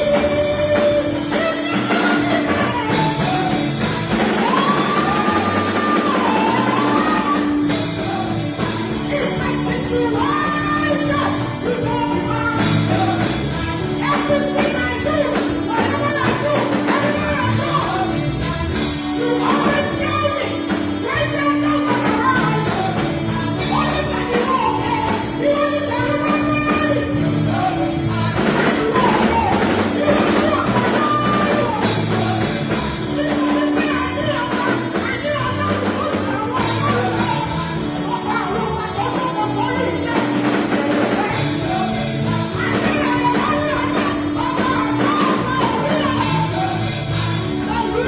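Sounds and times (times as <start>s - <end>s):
band playing: 0.0s - 48.0s
voices singing gospel song: 0.0s - 48.0s.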